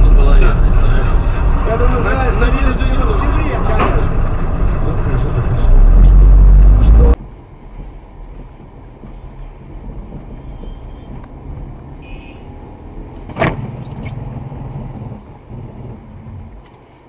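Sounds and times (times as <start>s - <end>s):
car engine and tyres drone: 0.0s - 17.0s.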